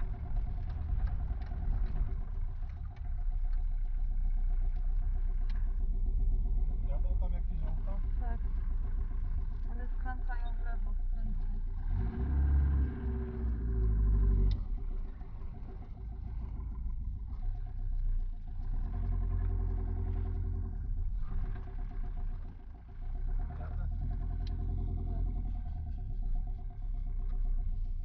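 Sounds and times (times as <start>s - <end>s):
diesel van engine running: 0.0s - 28.0s.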